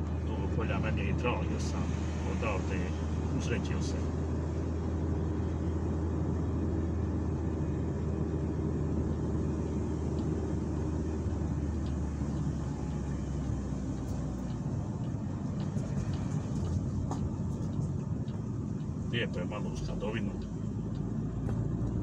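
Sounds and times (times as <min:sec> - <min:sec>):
car engine hum: 0:00.0 - 0:22.0.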